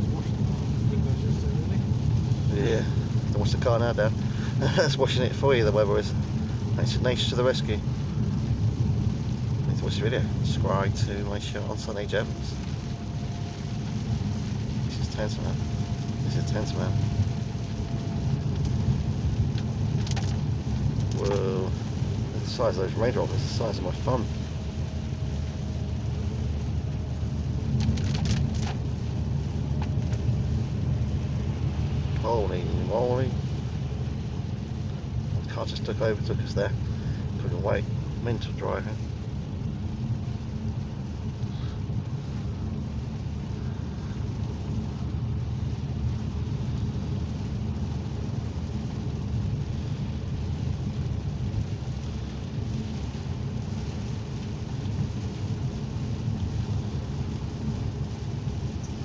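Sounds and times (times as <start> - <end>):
car engine and tyres rumbling: 0.0 - 59.0
rain hissing: 0.0 - 59.0
raindrops tapping on car: 0.0 - 59.0.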